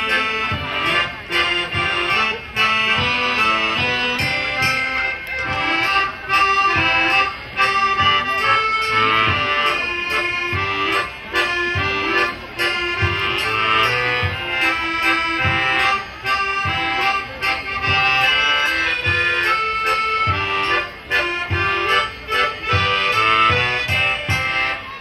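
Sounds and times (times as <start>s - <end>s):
accordion melody: 0.0s - 25.0s
folk band playing dance tune: 0.0s - 25.0s.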